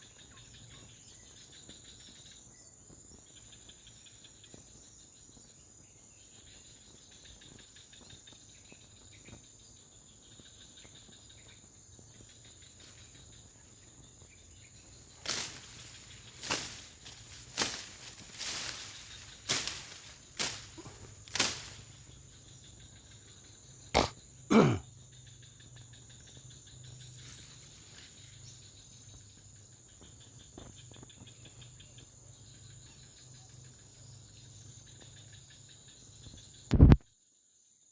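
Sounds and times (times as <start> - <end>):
insect drone: 0.0 - 37.9.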